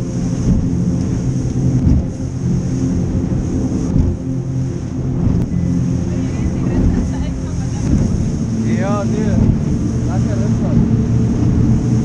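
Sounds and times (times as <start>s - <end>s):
boat engine humming: 0.0s - 12.0s
water rushing past boat: 0.0s - 12.0s.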